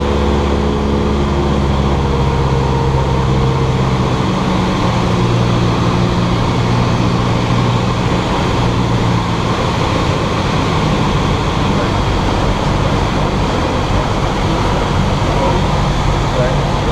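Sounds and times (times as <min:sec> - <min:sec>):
propeller plane engine drone: 0:00.0 - 0:16.9.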